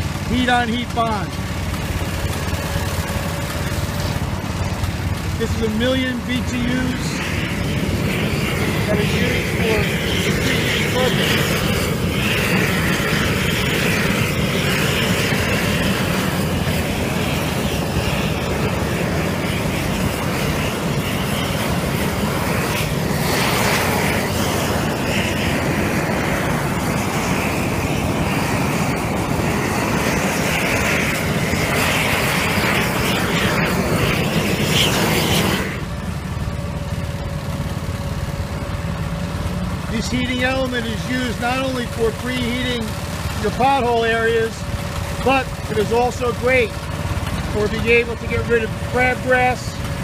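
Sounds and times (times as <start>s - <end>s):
burner rushing hiss: 0.0s - 50.0s
low engine drone: 0.0s - 50.0s.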